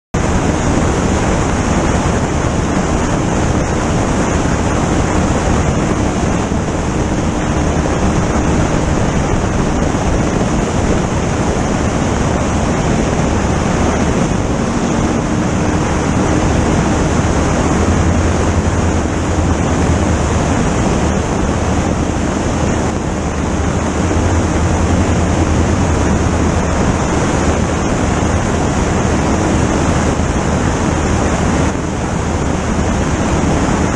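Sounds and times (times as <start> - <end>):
car engine at high revs: 0.2 - 33.9
wind rushing on microphone: 0.2 - 33.9.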